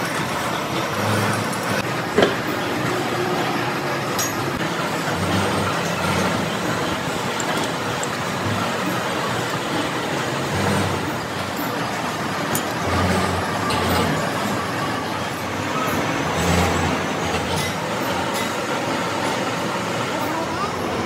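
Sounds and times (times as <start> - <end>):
lathe workshop mechanical noise: 0.0 - 21.0.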